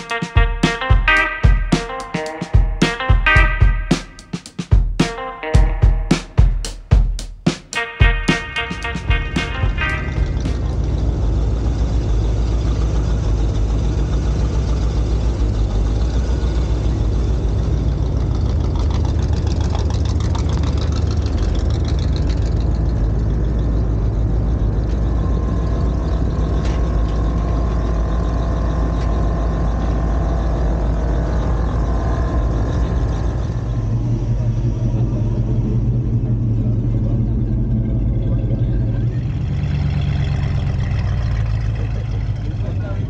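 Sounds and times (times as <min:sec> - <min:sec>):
supercharged engine rumbling: 0:00.0 - 0:43.0.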